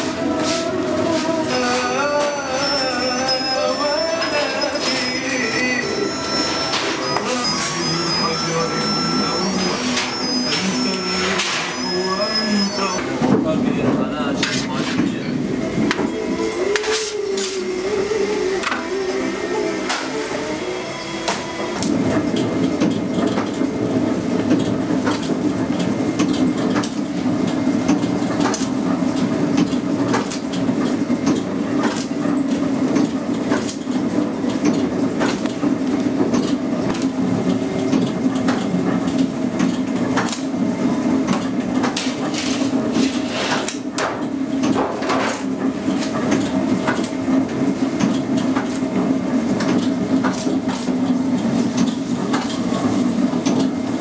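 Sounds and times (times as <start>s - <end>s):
machine conveyor and rollers humming: 0.0s - 54.0s.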